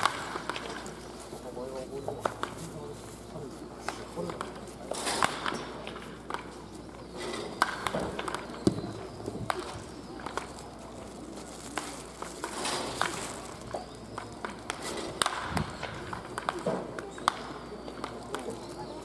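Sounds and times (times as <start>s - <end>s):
wooden bats cracking balls: 0.0s - 2.8s, 3.7s - 19.0s.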